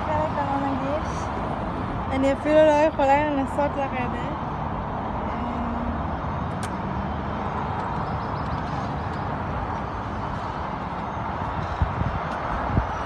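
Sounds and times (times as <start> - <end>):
distant road traffic: 0.0 - 13.0
wind rumbling on microphone: 0.0 - 13.0.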